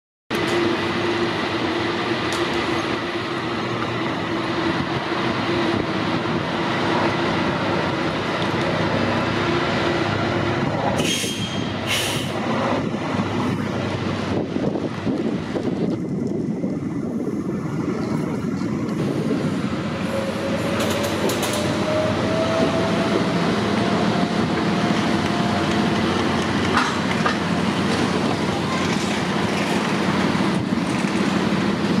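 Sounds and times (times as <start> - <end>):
road and traffic rumble: 0.3 - 32.0.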